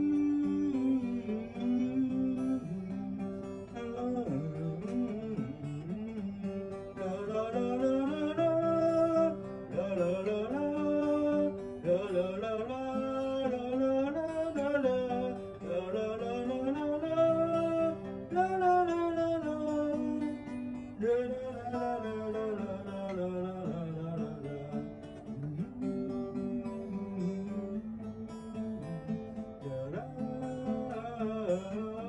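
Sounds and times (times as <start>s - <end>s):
acoustic guitar music: 0.0s - 32.0s
man singing: 0.0s - 32.0s.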